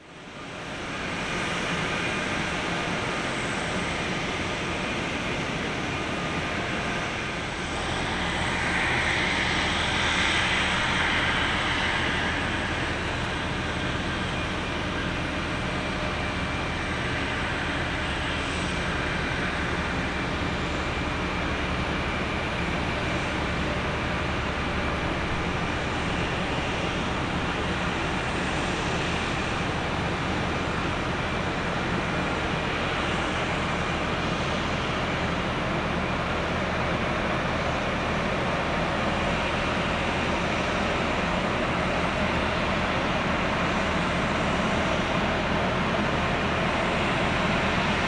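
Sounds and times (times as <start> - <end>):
jet engine rushing: 0.6 - 48.0.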